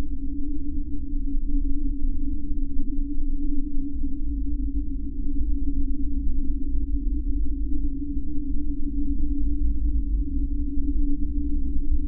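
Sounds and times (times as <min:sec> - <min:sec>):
low humming tone: 0:00.0 - 0:12.0.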